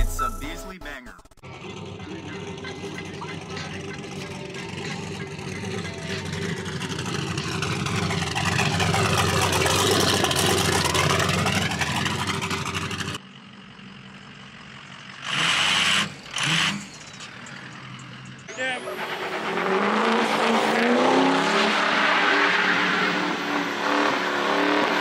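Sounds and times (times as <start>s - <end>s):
truck engine passing by: 1.4s - 25.0s.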